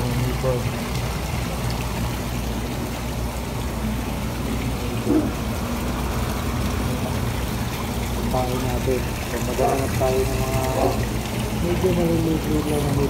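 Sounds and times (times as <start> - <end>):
bubbling trickling water: 0.0 - 13.0
water pump humming: 0.0 - 13.0.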